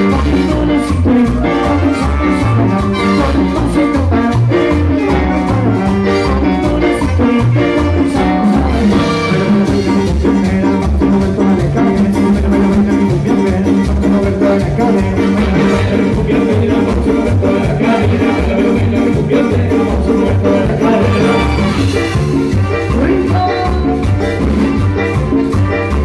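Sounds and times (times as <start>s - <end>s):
pulsing bass line: 0.0s - 26.0s
salsa band playing: 0.0s - 26.0s.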